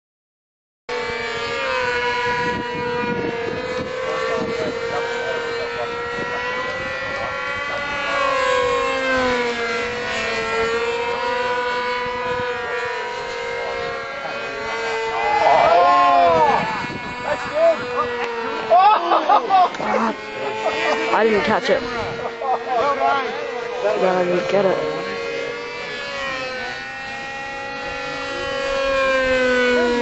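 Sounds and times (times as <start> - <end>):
model plane engines buzzing: 0.9 - 30.0.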